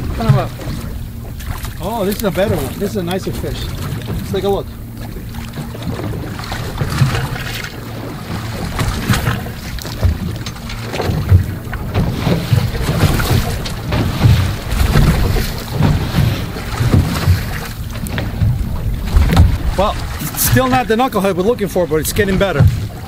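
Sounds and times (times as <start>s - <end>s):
waves washing against boat hull: 0.0s - 23.0s
wind buffeting microphone: 0.0s - 23.0s.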